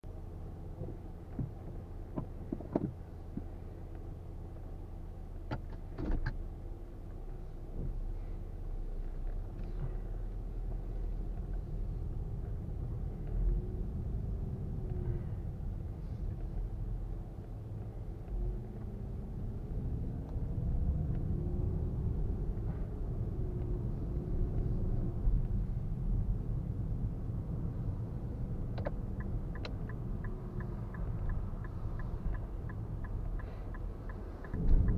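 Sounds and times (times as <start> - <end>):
low road and engine rumble: 0.0 - 34.9
car engine running: 6.4 - 34.9.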